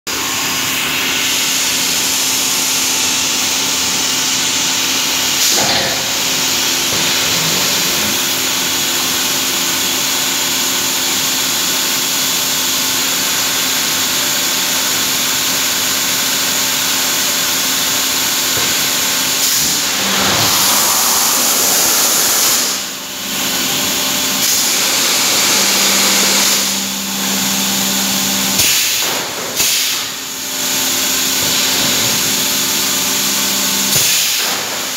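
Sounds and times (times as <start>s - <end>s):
machinery hiss and hum: 0.2s - 34.7s.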